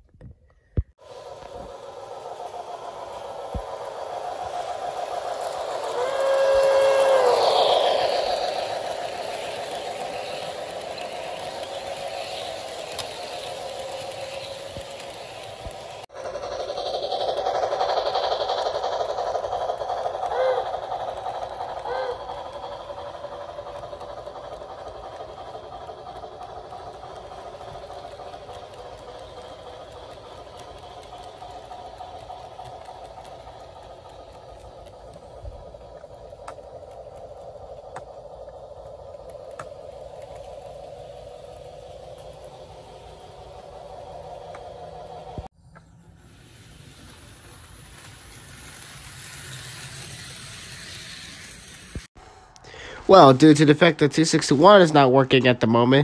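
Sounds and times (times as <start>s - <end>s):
model train whirring hum: 0.0s - 56.0s
wheels clicking on rails: 0.0s - 56.0s.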